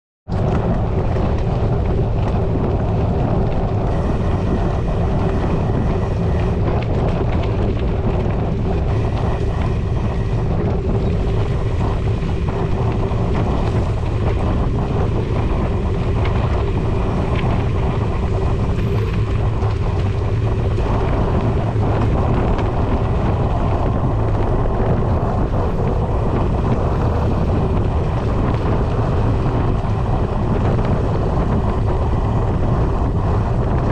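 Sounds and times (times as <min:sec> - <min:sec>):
bike tyres on dirt trail: 0:00.3 - 0:33.9
wind rumble on microphone: 0:00.3 - 0:33.9.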